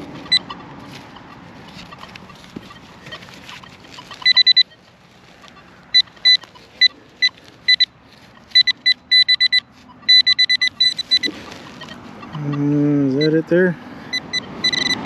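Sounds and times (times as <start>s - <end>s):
metal detector beeping: 0.0s - 15.0s.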